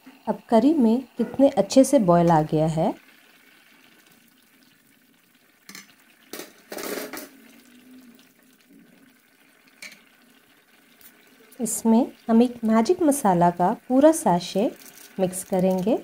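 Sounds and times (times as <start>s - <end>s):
curry bubbling in a pan: 0.0s - 16.0s.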